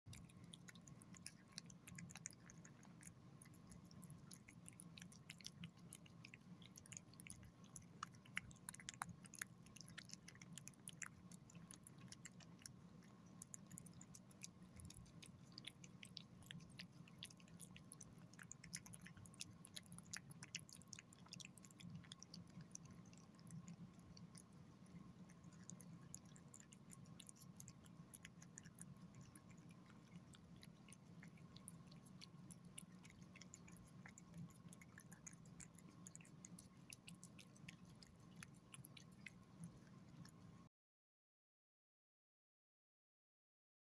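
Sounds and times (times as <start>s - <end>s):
cat chewing wet food: 0.1s - 40.7s.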